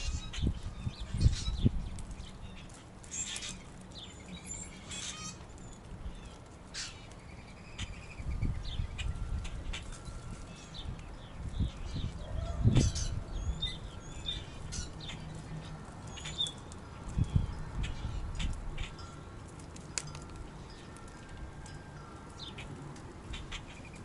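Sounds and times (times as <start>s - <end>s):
birds chirping and calling: 0.0s - 24.0s.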